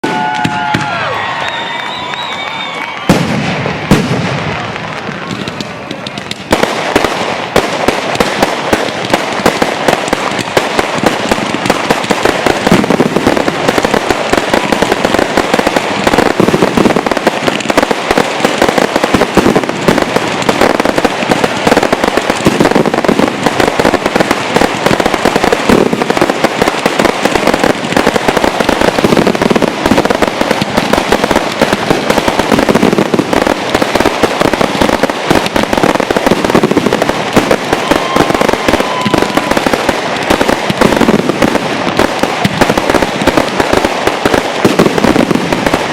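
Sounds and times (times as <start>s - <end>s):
fireworks bursting and crackling: 0.0s - 45.9s.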